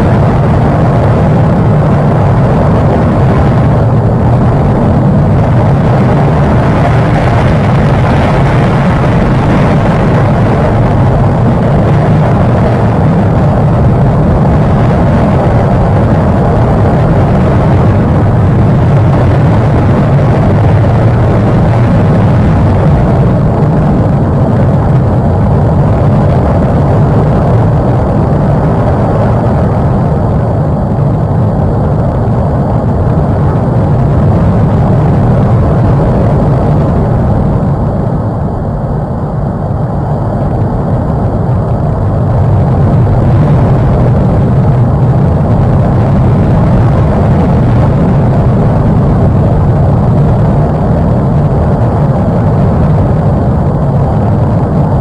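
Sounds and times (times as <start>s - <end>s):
volcano rumbling: 0.0s - 55.0s.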